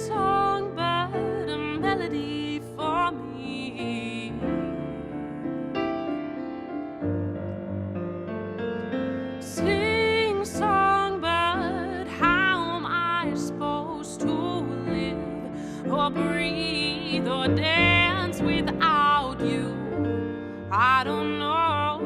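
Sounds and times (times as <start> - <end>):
piano playing soft chords: 0.0 - 22.0.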